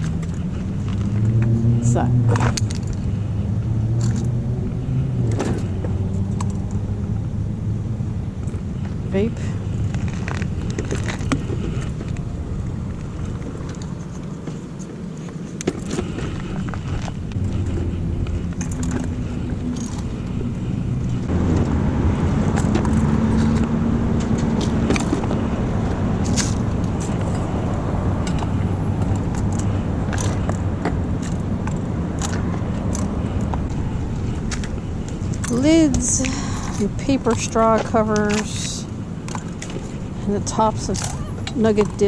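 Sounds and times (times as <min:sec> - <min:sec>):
car engine running: 0:00.0 - 0:42.0.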